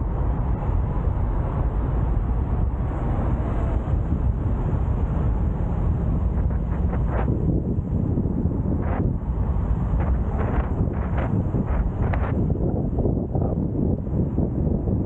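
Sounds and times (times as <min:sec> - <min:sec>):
car road and engine noise: 0:00.0 - 0:15.0
wind buffeting microphone: 0:00.0 - 0:15.0.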